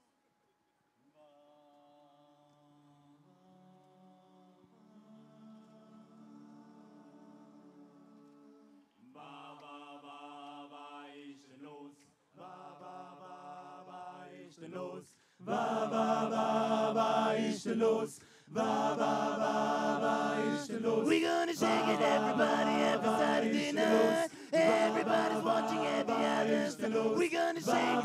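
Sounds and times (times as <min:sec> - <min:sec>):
a cappella group singing: 0:02.4 - 0:28.0.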